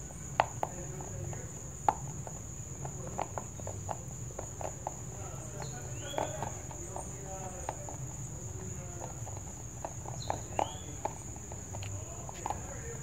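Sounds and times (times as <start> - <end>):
crickets droning: 0.0 - 13.0
rabbit crunching dry food: 0.1 - 13.0.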